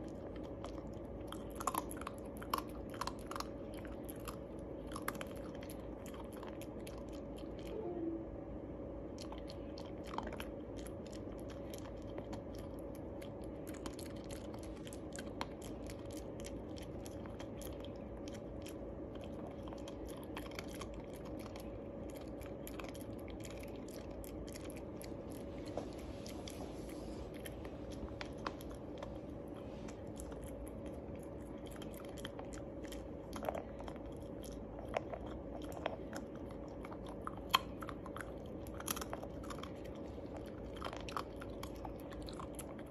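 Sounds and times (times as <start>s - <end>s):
puppy crunching dog biscuit: 0.0s - 7.8s, 9.1s - 42.9s
steady background hum: 0.0s - 42.9s.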